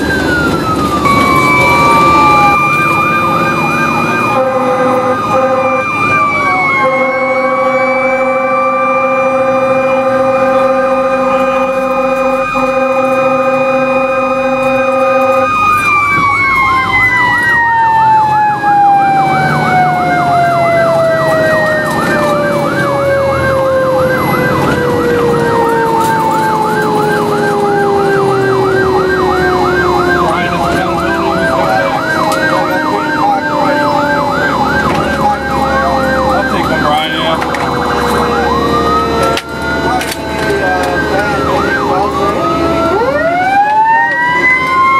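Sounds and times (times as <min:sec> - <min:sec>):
fire truck engine rumbling: 0:00.0 - 0:44.9
siren steady high tone: 0:00.0 - 0:44.9
siren yelping: 0:00.0 - 0:44.9.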